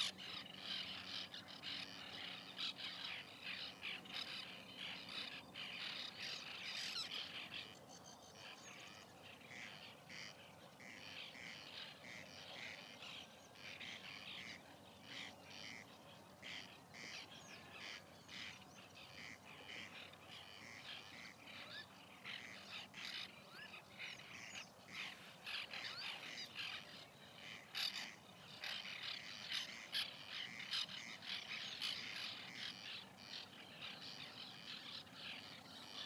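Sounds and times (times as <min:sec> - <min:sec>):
terns calling: 0:00.0 - 0:36.0.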